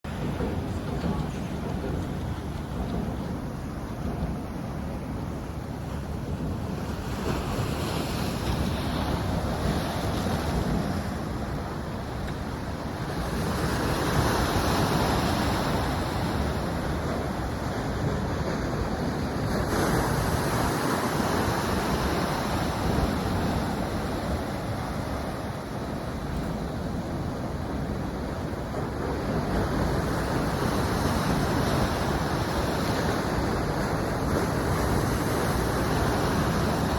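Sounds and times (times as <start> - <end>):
ocean surf breaking: 0.1 - 36.9.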